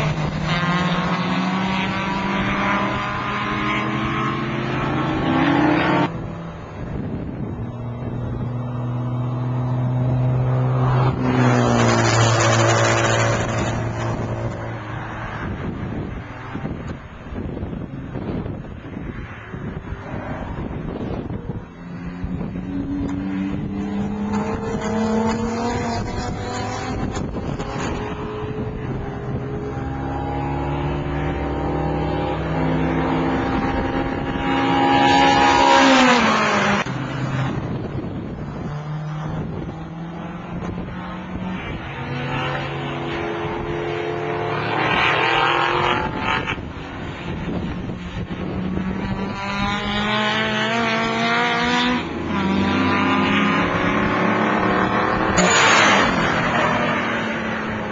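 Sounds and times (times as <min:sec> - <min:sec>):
race car passing by: 0:00.0 - 0:16.8, 0:17.6 - 0:57.9
race car engines at full throttle: 0:00.0 - 0:57.9.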